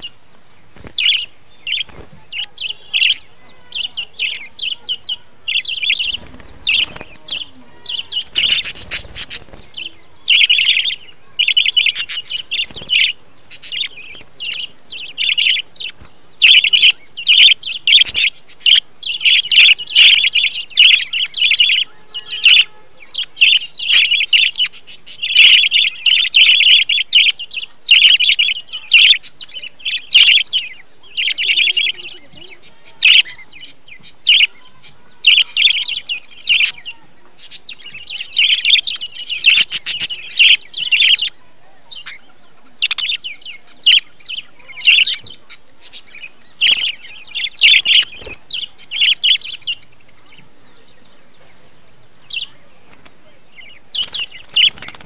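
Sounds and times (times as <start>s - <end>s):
budgerigars chirping and chattering: 0.0s - 55.0s.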